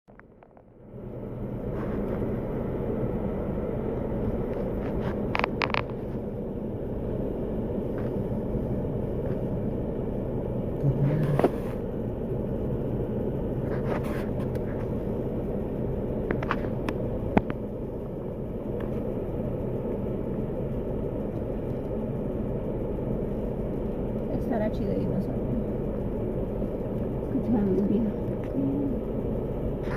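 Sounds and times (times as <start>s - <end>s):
steady low rumble: 0.1s - 29.9s.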